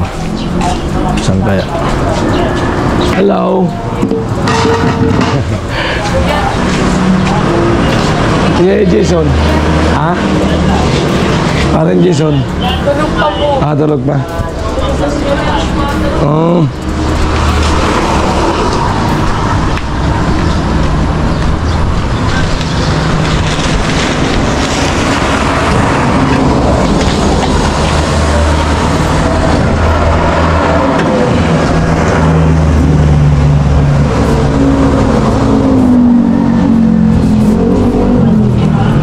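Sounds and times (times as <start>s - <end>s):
road and wind noise: 0.0s - 39.0s
vehicle engine running: 0.0s - 39.0s.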